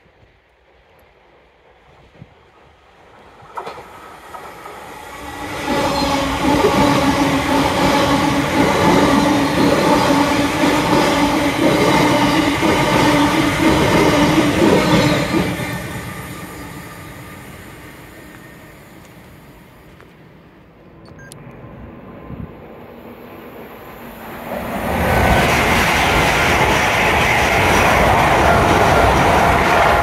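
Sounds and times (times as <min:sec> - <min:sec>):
train wheel-on-rail rumble: 0:00.0 - 0:30.0.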